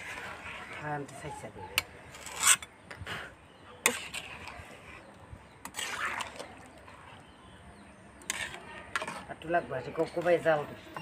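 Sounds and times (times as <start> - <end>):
metal ladle scraping a pot: 0.0 - 7.5, 8.2 - 11.0.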